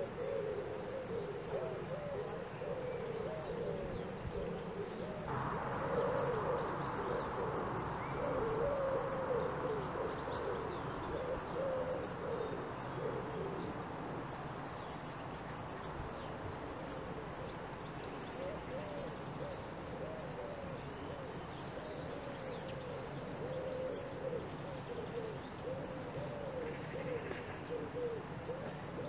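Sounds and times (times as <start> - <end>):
low wavering bird calls: 0.0 - 29.0
steady background hiss: 0.0 - 29.0.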